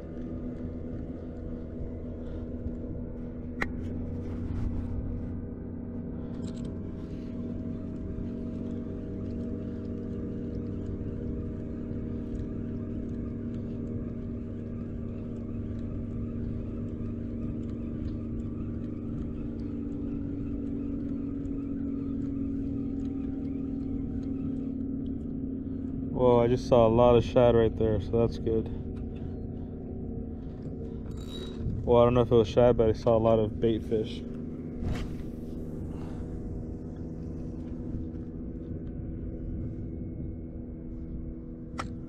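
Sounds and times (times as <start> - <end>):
engine drone: 0.0 - 42.0.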